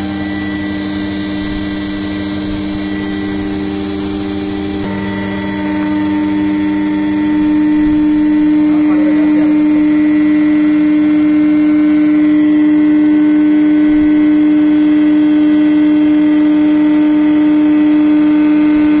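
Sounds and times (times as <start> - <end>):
hydraulic pump humming: 0.0 - 19.0.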